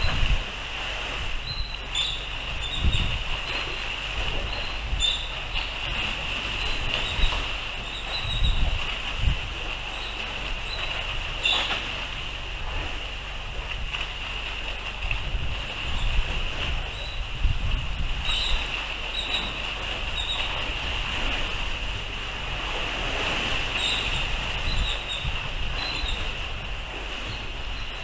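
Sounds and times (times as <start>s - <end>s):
sea wash: 0.0s - 28.0s
wind buffeting microphone: 0.0s - 28.0s.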